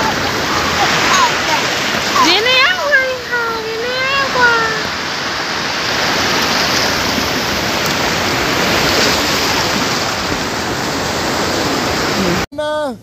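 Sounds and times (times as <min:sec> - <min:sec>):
small waves breaking on sand: 0:00.0 - 0:12.5.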